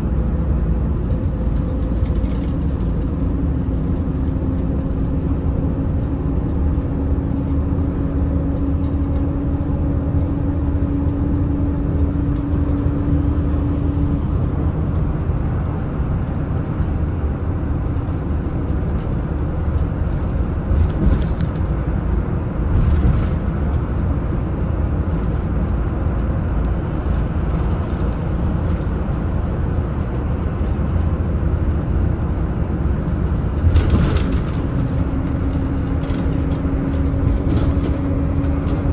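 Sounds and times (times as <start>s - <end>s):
diesel engine and road noise: 0.0s - 38.9s.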